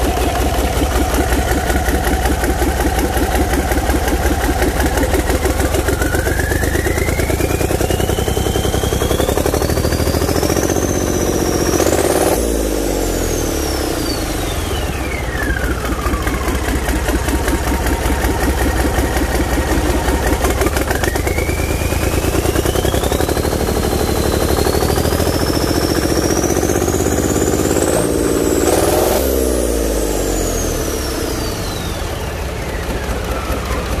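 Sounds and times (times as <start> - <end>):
marine diesel engine revving: 0.0 - 34.0
turbocharger whistle: 0.0 - 34.0.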